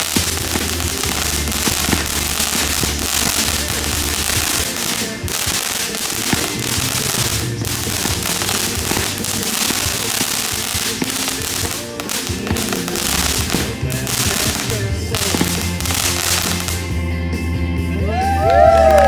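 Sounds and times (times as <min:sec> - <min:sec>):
fireworks crackling and popping: 0:00.0 - 0:17.2
music: 0:00.0 - 0:19.0.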